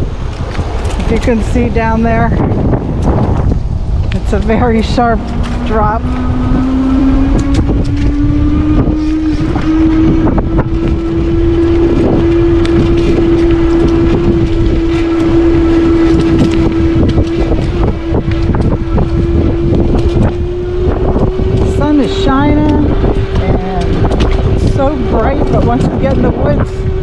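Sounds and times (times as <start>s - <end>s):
bike rattles and clicks: 0.0s - 27.0s
wind buffeting microphone: 0.0s - 27.0s
electric bike motor whining: 2.6s - 27.0s.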